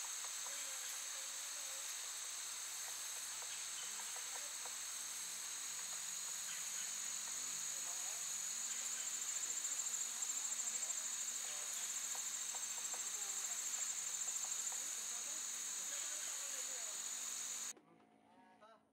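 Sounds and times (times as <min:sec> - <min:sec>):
insects trilling: 0:00.0 - 0:17.7.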